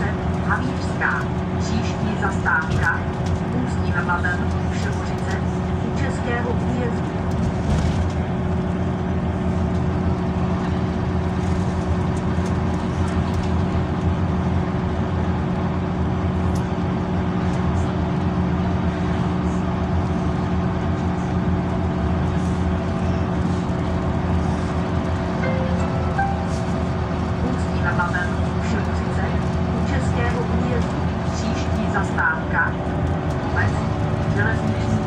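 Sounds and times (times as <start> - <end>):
bus engine drone: 0.0 - 35.0
road and tyre noise: 0.0 - 35.0.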